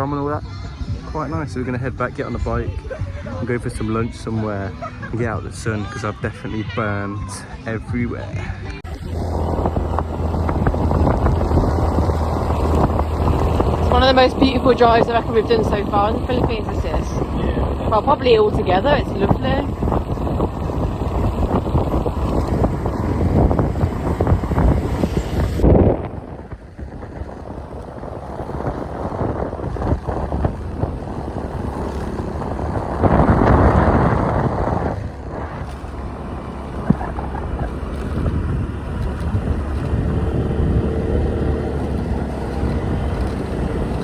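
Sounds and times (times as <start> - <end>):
road and engine noise: 0.0 - 44.0
wind buffeting the microphone: 0.0 - 44.0.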